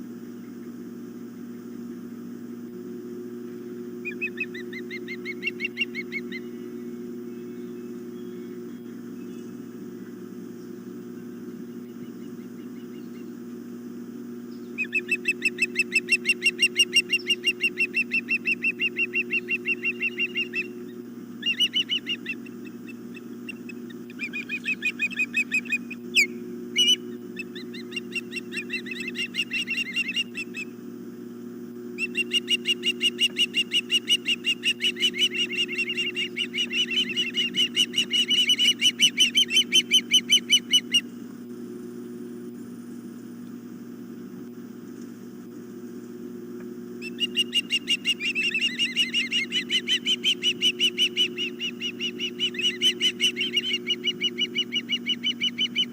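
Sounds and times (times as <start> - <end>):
steady low hum: 0.0 - 55.9
ospreys piping chirps: 3.4 - 31.1, 31.8 - 41.2, 46.8 - 55.9.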